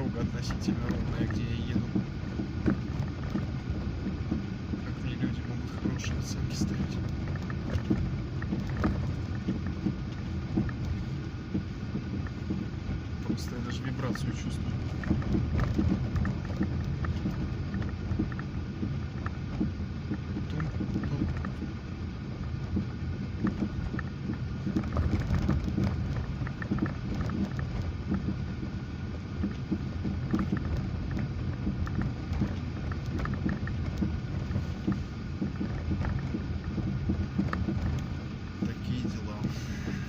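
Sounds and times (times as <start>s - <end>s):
car suspension knocking: 0.0s - 40.0s
road rumble and hum: 0.0s - 40.0s.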